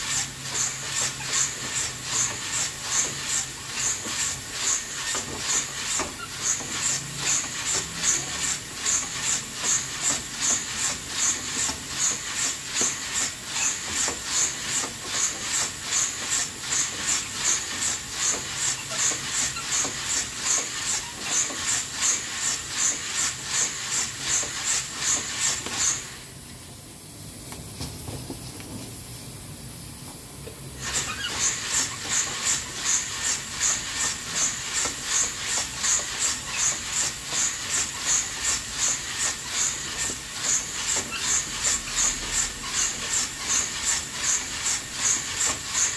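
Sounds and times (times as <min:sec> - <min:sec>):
coffee roaster swishing: 0:00.0 - 0:45.9.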